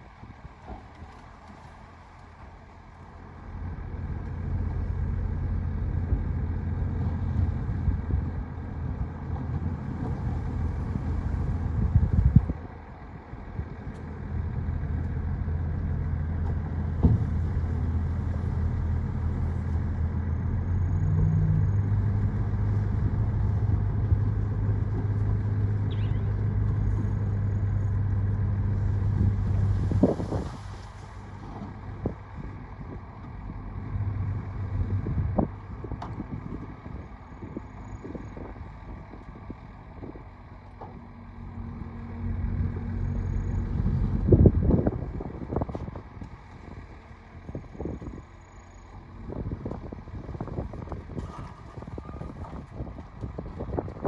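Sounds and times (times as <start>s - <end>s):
heavy diesel machinery engine drone: 0.0s - 54.0s.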